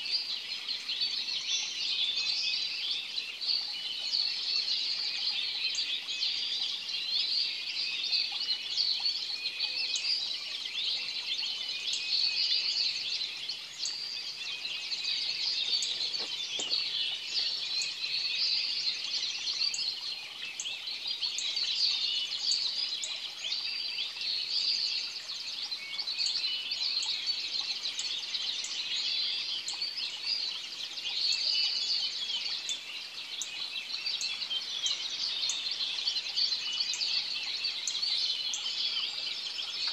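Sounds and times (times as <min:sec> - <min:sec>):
birds dawn chorus: 0:00.0 - 0:39.9.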